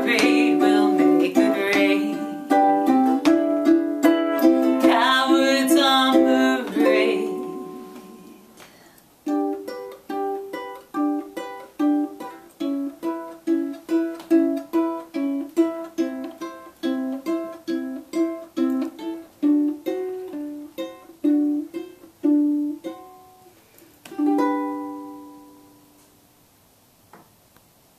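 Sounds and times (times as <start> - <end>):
ukulele strumming chords: 0.0 - 26.1.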